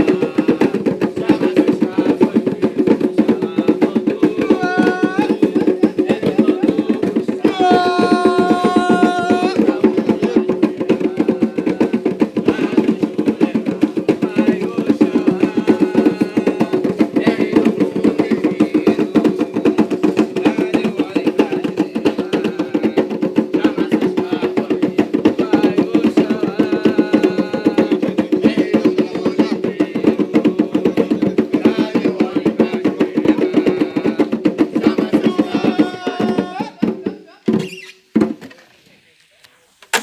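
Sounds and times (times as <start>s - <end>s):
hand drums fast rhythm: 0.0s - 38.5s.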